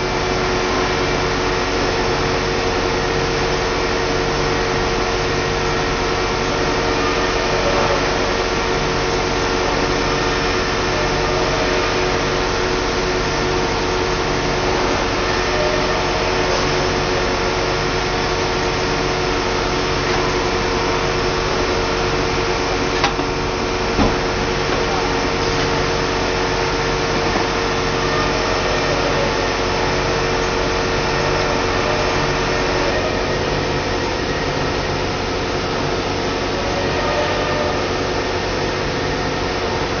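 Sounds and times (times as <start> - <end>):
machine hum with low pulse: 0.0 - 40.0.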